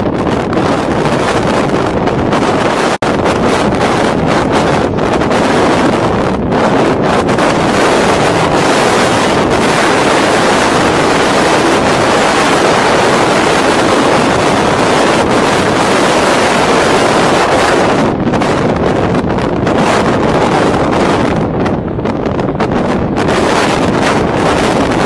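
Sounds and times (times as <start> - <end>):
heavy seas breaking: 0.0 - 25.0
wind buffeting microphone: 0.0 - 25.0.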